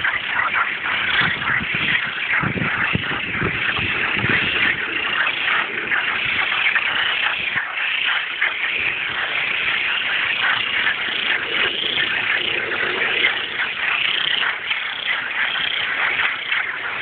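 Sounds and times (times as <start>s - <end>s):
deeper frog calls: 0.0s - 17.0s
frogs calling in chorus: 0.0s - 17.0s.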